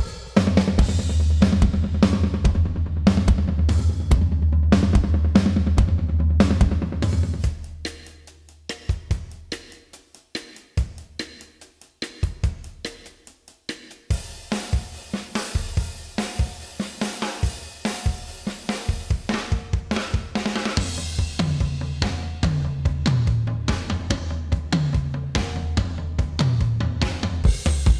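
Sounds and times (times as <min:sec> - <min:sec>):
drum kit groove: 0:00.0 - 0:27.9.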